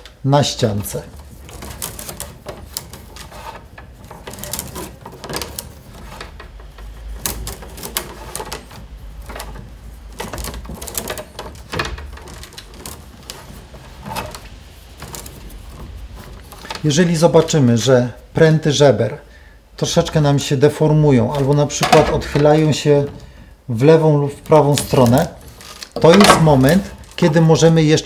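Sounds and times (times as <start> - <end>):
wicker rods clicking and rustling: 0.0 - 18.3, 19.8 - 28.0.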